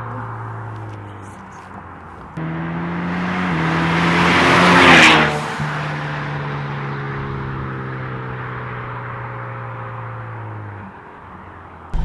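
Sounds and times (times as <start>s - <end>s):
car exhaust driving past: 2.3s - 12.0s.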